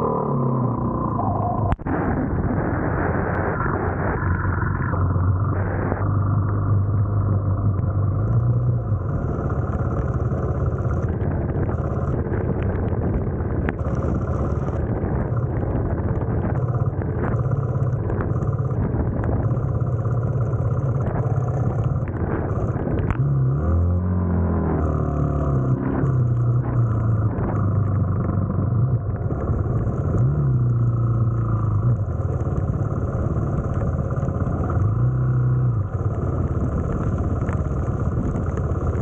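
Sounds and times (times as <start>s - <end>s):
quad engine revving: 4.9s - 39.0s.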